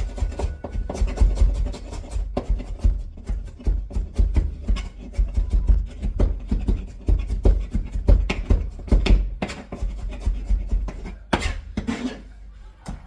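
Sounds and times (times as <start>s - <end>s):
knife chopping on cutting board: 0.0s - 12.2s.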